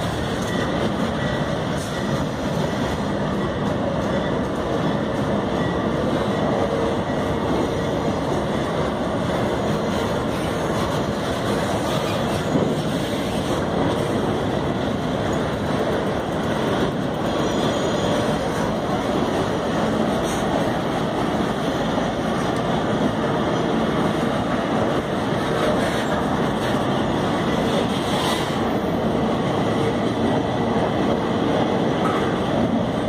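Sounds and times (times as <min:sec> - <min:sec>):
steel wheels rumbling on rail: 0:00.0 - 0:33.0.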